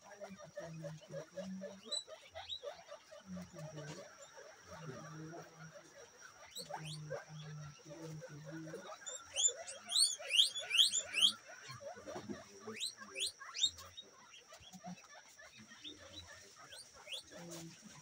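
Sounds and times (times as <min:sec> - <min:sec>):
guinea pigs rumbling: 0:00.0 - 0:18.0
guinea pigs squeaking: 0:00.0 - 0:18.0.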